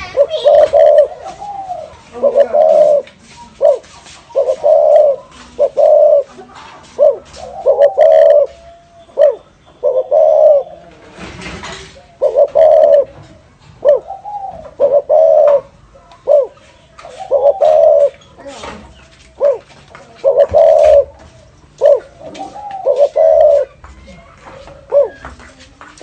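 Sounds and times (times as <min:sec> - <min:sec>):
dove cooing: 0:00.0 - 0:25.5.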